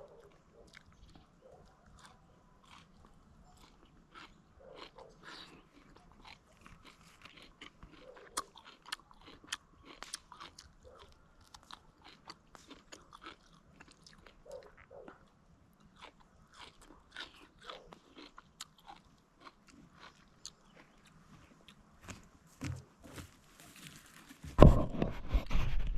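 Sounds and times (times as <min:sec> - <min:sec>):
person chewing crunchy food: 0:00.0 - 0:24.5.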